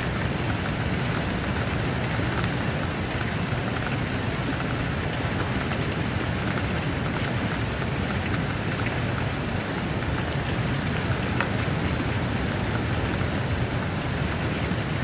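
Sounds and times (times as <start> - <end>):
single raindrops: 0.0 - 12.1
steady rain hiss: 0.0 - 15.0.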